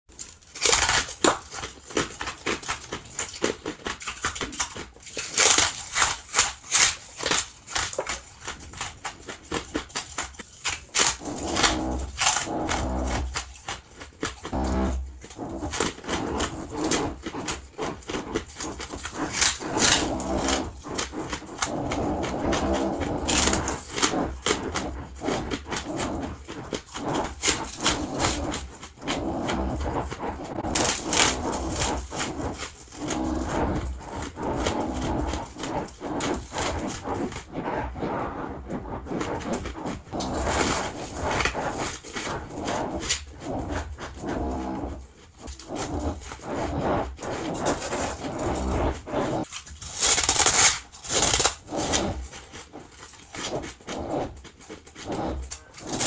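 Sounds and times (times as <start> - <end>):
crunching and chewing frost: 0.1 - 56.0.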